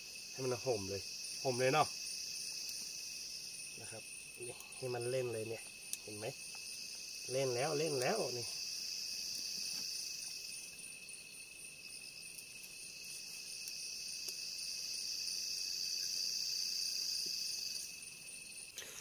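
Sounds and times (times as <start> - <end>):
crickets and insects chirring: 0.0 - 19.0.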